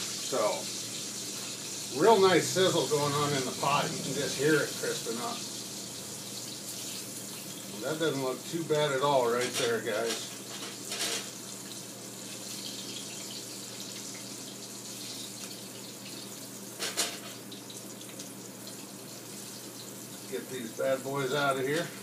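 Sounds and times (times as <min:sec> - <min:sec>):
meat deep-frying in oil: 0:00.0 - 0:22.0.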